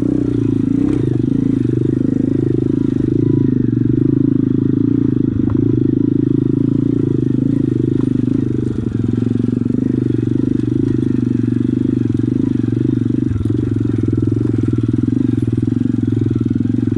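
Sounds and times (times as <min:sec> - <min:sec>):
small motorcycle engine idling: 0:00.0 - 0:16.9.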